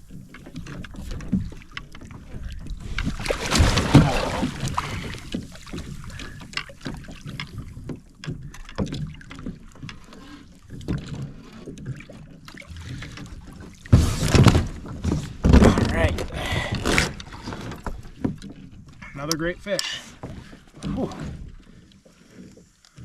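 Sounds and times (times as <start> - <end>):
water splashing: 0.0 - 18.5.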